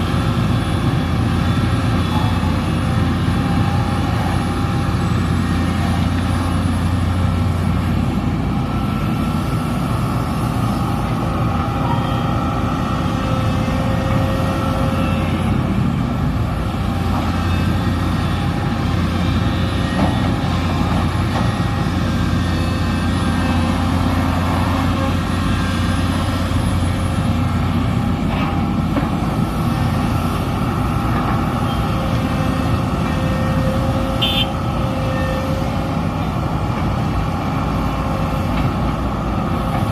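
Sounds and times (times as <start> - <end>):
excavator engine droning: 0.0 - 39.9.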